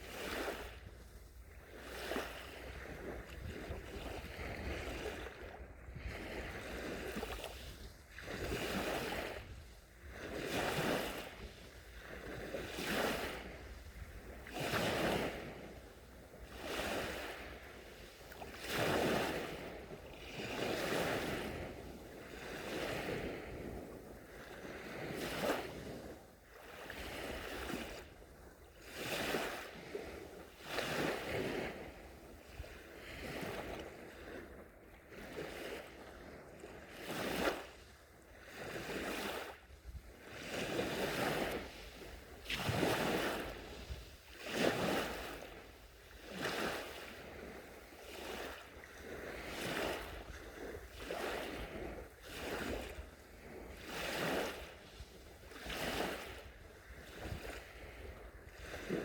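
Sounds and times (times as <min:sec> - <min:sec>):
sea waves breaking on shore: 0:00.0 - 0:59.0
wind rumble on microphone: 0:00.0 - 0:59.0.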